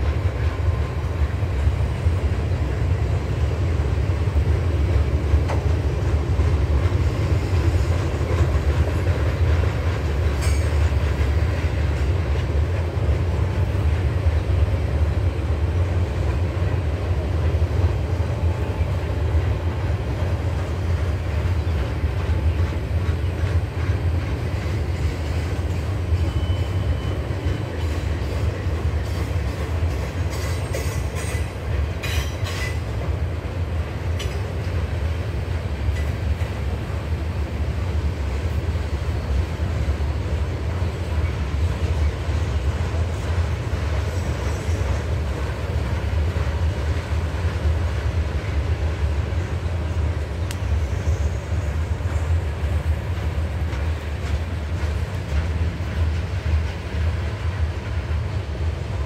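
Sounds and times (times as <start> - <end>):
steel wheels rumbling on track: 0.0 - 59.0.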